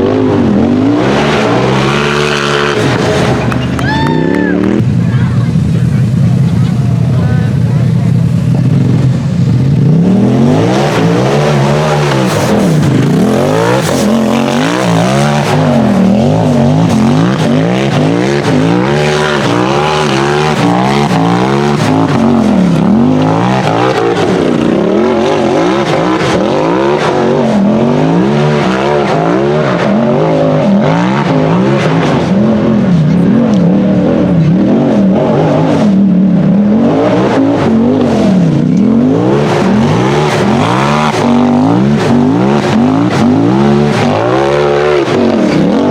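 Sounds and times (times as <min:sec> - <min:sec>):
race engine revving: 0:00.0 - 0:45.9.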